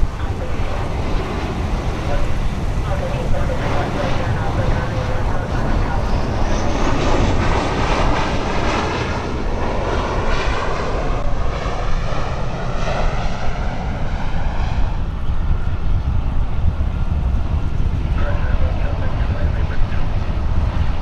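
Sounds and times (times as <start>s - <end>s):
airliner engine whine: 0.0s - 21.0s
deep engine rumble: 0.0s - 21.0s.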